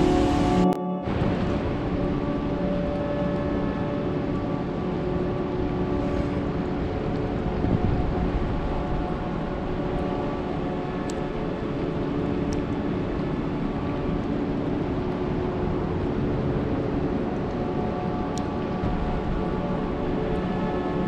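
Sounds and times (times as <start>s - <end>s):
faint steady hum: 0.0s - 21.0s
river and waterfall roar: 0.0s - 21.0s.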